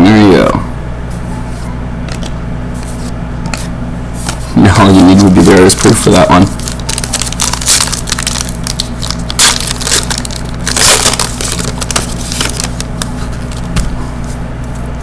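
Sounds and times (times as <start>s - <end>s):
steady low hum: 0.0s - 15.0s
cards and packaging rustling: 2.1s - 14.3s.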